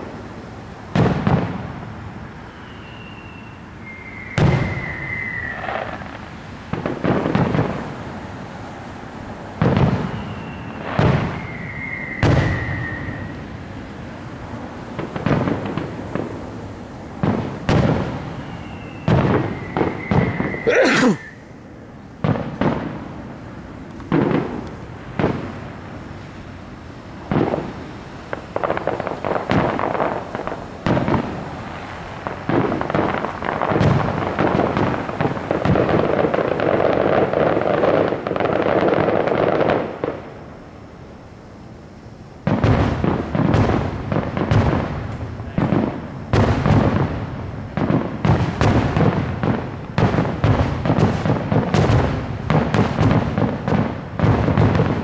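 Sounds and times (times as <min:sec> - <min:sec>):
fireworks booming: 0:00.0 - 0:08.5, 0:09.2 - 0:40.8, 0:42.4 - 0:55.0.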